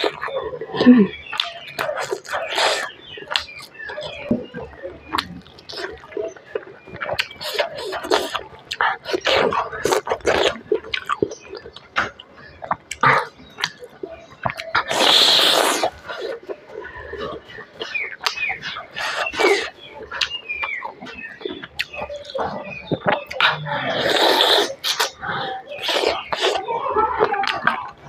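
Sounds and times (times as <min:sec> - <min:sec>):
chewing and lip-smacking: 0:00.0 - 0:28.0.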